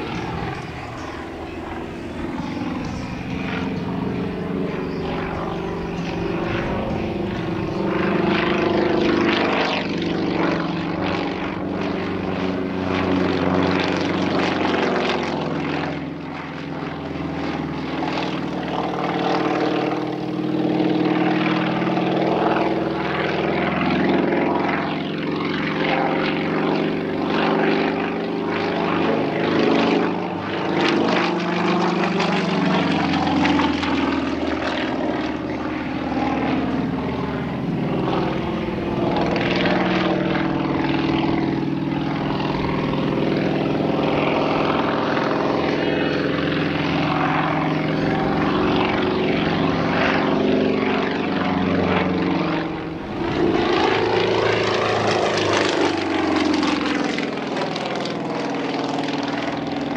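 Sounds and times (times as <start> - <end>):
plane radial engine and propeller: 0.0 - 59.9.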